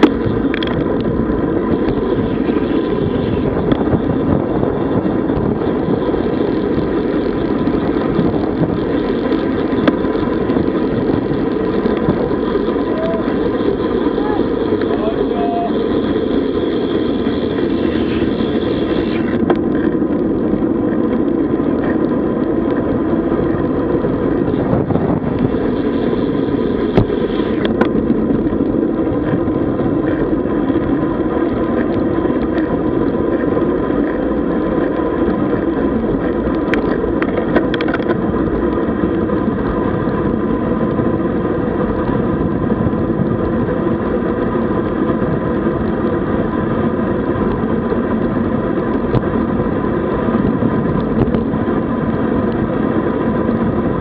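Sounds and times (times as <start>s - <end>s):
bike tyre road noise: 0.0s - 54.0s
wind on microphone: 0.0s - 54.0s.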